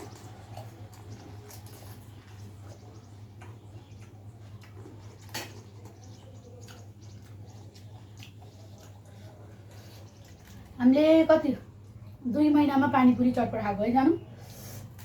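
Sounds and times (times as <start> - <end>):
chewing crunchy food: 0.0 - 12.3.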